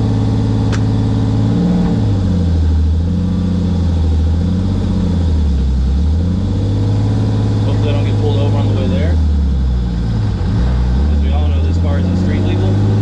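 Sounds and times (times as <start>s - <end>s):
car engine running inside cabin: 0.0s - 13.0s.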